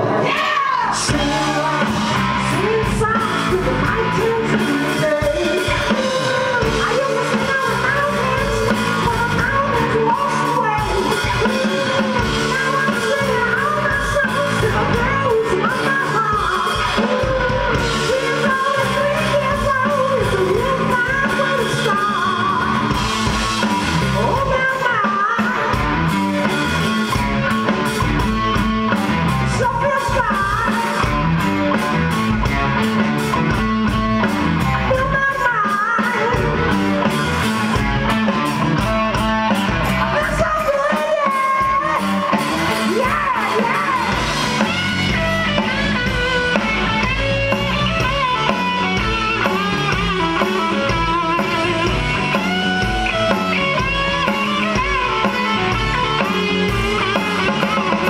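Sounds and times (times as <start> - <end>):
lead singer singing: 0.0 - 27.2, 28.3 - 32.2, 32.8 - 58.0
bass guitar: 0.0 - 58.0
drums: 0.0 - 58.0
electric guitar: 0.0 - 58.0.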